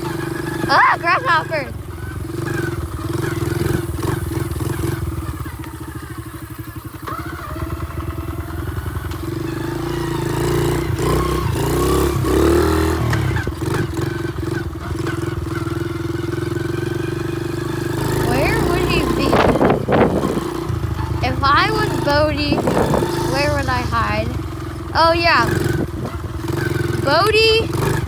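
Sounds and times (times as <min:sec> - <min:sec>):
small motorbike engine running: 0:00.0 - 0:28.0.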